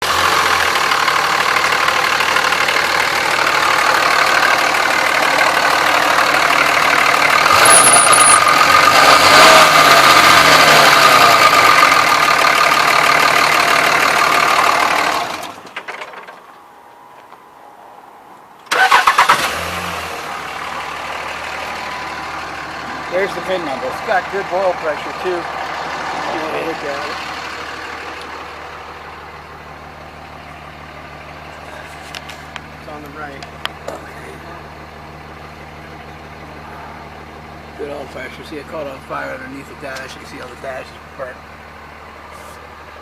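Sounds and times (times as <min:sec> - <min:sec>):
diesel engine revving and idling: 0:00.0 - 0:16.1, 0:18.7 - 0:43.0.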